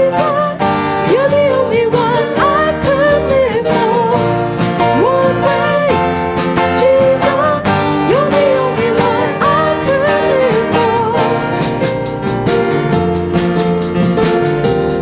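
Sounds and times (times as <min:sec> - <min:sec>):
person singing: 0:00.0 - 0:14.4
instrumental accompaniment: 0:00.0 - 0:15.0.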